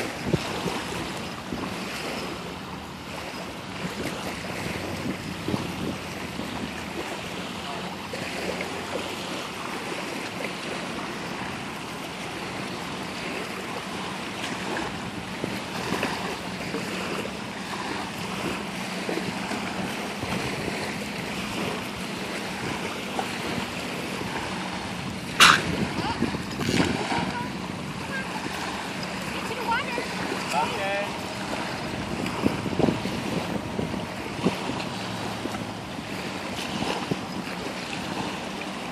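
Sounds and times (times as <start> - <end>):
wind on microphone: 0.0 - 7.5, 12.5 - 38.9
small waves lapping on shore: 0.0 - 38.9.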